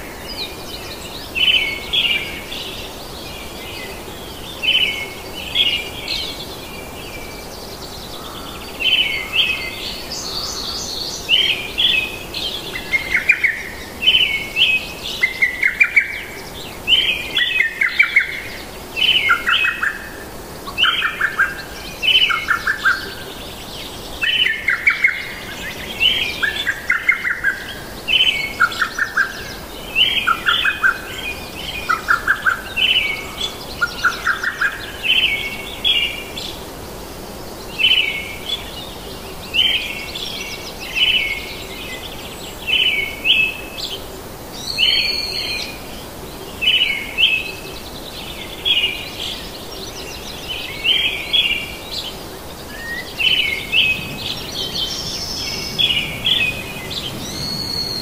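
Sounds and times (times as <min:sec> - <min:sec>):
songbirds chirping and trilling: 0:00.0 - 0:58.0
steady background hiss: 0:00.0 - 0:58.0.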